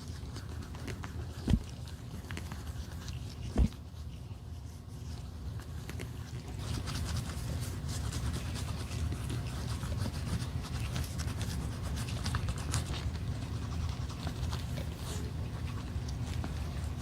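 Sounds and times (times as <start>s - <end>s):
scratching and rubbing strokes: 0.0s - 17.0s
steady low hum: 0.0s - 17.0s.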